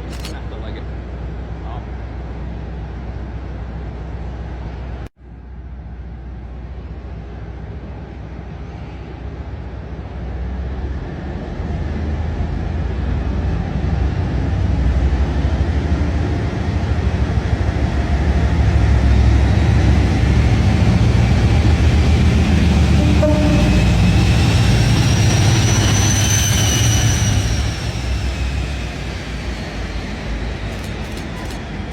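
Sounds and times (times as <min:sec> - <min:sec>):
diesel locomotive engine rumble: 0:00.0 - 0:31.9.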